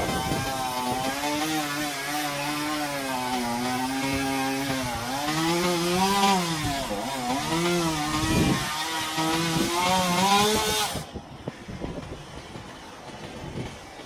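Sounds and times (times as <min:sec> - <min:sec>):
chainsaw cutting wood: 0:00.0 - 0:11.2, 0:11.8 - 0:14.0.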